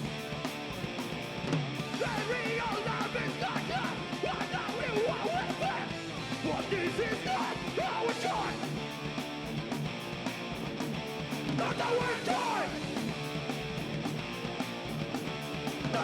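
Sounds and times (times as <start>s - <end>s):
drums with cymbal beat: 0.0s - 16.0s
electric guitars: 0.0s - 16.0s.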